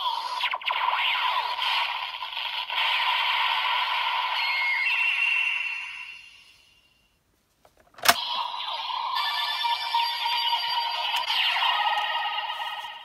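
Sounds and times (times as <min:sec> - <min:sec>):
electronic toy sound effects and music: 0:00.0 - 0:06.9, 0:08.1 - 0:13.0.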